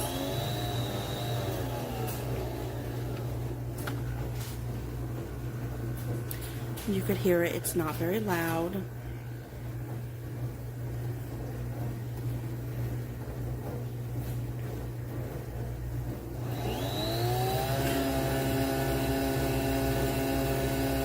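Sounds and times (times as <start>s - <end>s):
coffee machine humming: 0.0s - 21.0s.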